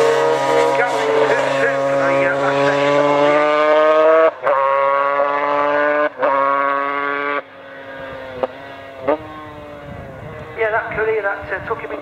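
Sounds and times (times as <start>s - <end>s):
racing motorcycle engine revving: 0.0s - 12.0s.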